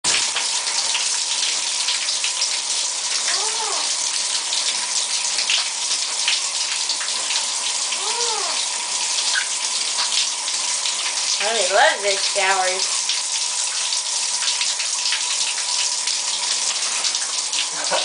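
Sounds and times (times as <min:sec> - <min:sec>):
shower spray hissing on tiles: 0:00.1 - 0:18.0.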